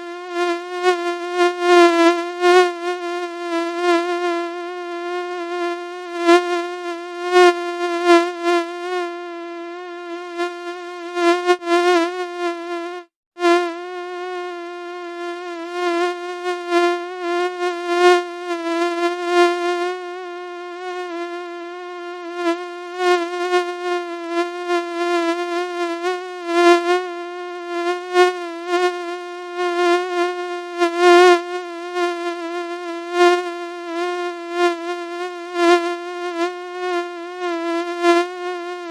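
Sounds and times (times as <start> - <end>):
mosquito buzzing whine: 0.0 - 38.9.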